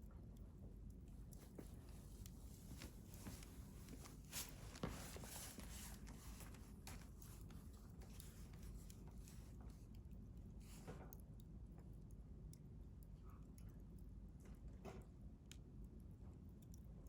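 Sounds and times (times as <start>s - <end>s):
wood fire crackling: 0.2s - 14.4s.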